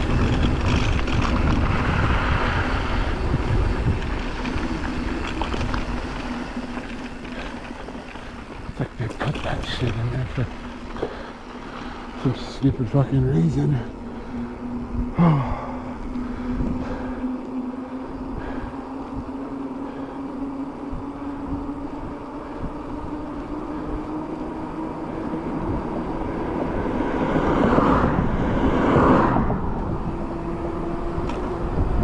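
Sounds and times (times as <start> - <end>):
bike tyres humming on asphalt: 0.0 - 32.0
wind rushing over microphone: 0.0 - 32.0.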